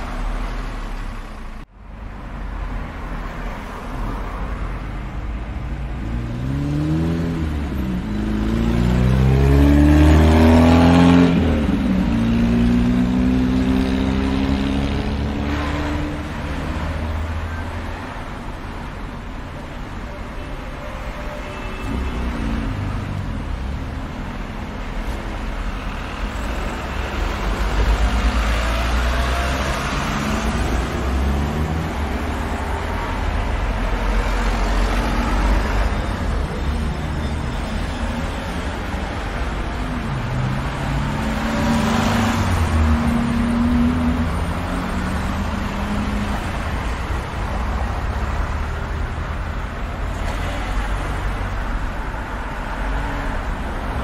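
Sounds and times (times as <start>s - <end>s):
car engines humming: 0.0s - 54.0s
road noise: 0.0s - 54.0s.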